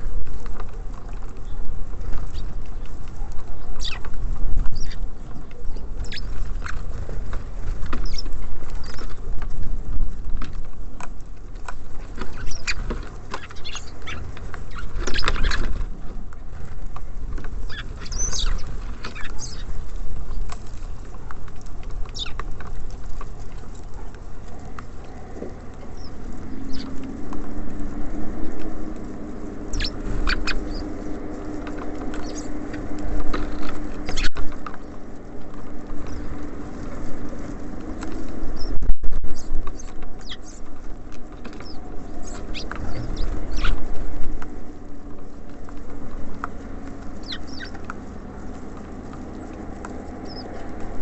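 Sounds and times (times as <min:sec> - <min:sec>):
birds pecking at seed: 0:00.0 - 0:51.0
steady low rumble: 0:00.0 - 0:51.0.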